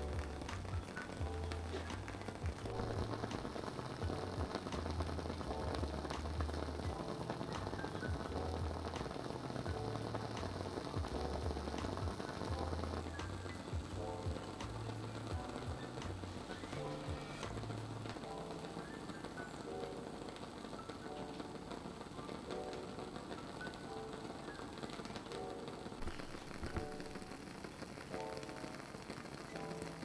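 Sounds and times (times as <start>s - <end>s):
background music: 0.0s - 30.0s
candle wick crackling: 0.0s - 30.0s.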